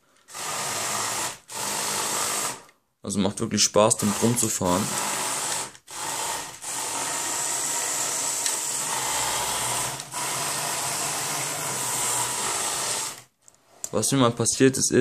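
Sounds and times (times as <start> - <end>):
toy electric motors running: 0.3 - 2.7, 3.9 - 14.0.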